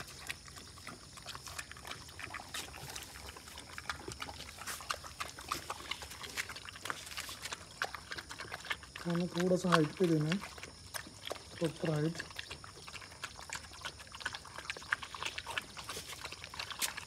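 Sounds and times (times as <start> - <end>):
puppy eating from steel bowl: 0.0 - 17.0.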